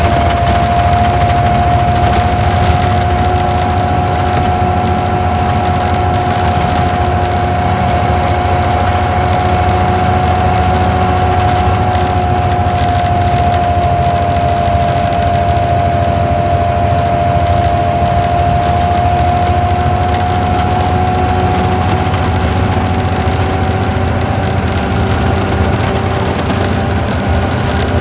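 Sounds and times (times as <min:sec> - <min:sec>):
bus engine rumble inside cabin: 0:00.0 - 0:28.0
drivetrain whine: 0:00.0 - 0:28.0.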